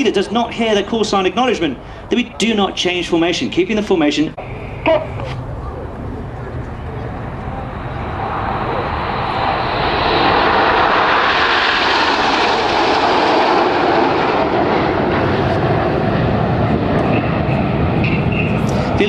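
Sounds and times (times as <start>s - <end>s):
jets passing close: 0.0s - 19.0s.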